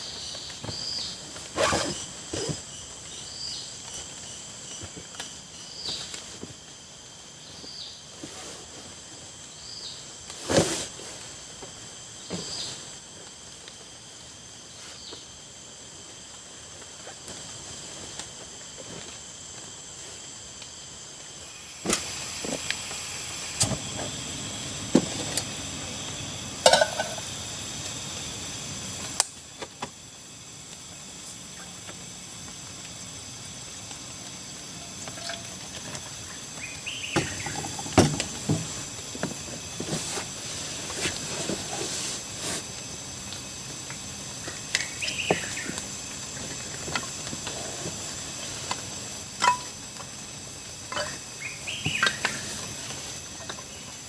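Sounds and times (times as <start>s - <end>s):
night insects trilling: 0.0s - 54.0s
steady hiss: 0.0s - 54.0s.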